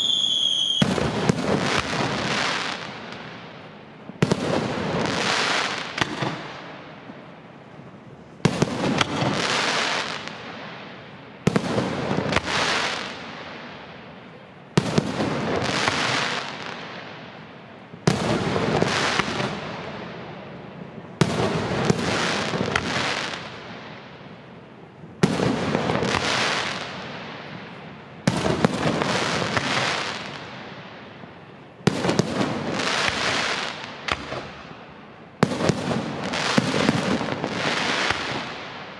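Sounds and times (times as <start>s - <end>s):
dense crackling of firework stars: 0.0s - 38.9s.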